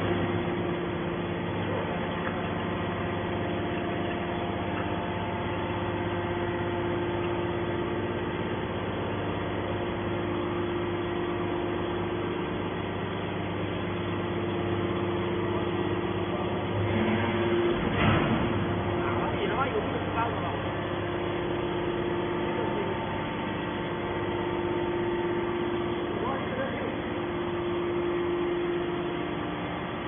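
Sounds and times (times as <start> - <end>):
hydraulic baler humming: 0.0 - 30.0.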